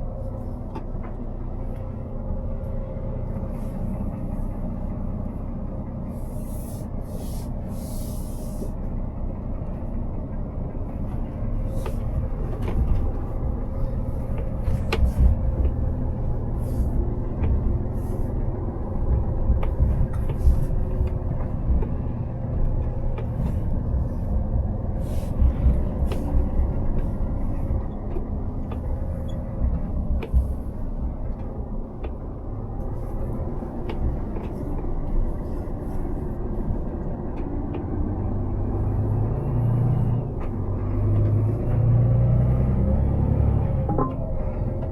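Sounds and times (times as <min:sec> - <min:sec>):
heavy truck diesel rumble: 0:00.0 - 0:44.9.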